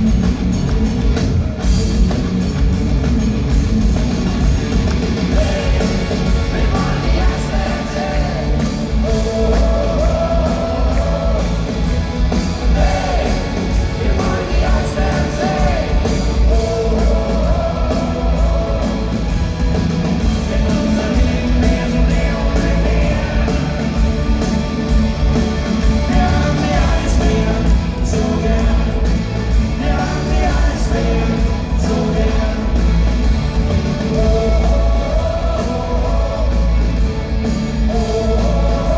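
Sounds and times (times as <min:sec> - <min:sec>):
drums: 0:00.0 - 0:38.9
electric guitars: 0:00.0 - 0:38.9
lead vocal singing: 0:05.2 - 0:38.9.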